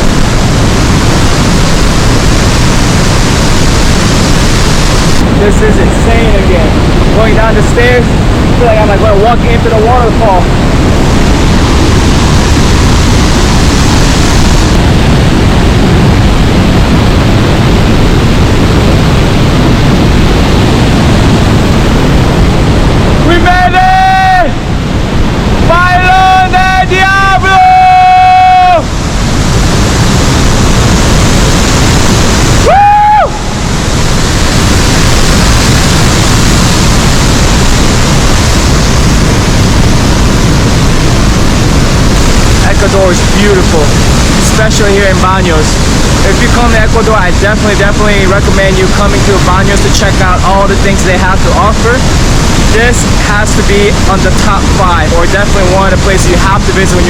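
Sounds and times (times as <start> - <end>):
waterfall rushing: 0.0 - 21.0, 21.6 - 57.0.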